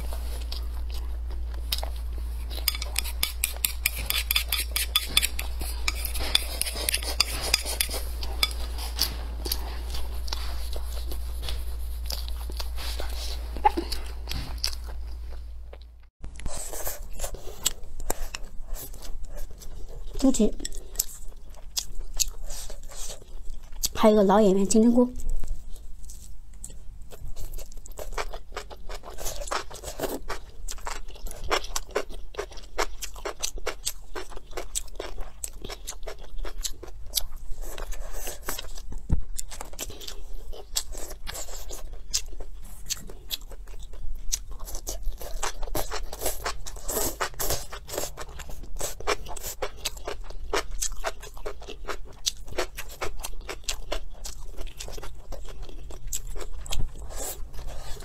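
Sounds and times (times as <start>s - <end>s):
person chewing food: 0.0s - 24.0s, 25.2s - 58.0s.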